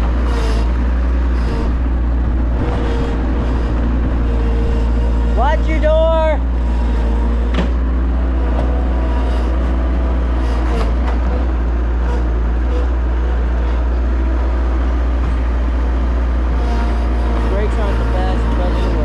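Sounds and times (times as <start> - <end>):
vehicle engine running at low revs: 0.0 - 19.0.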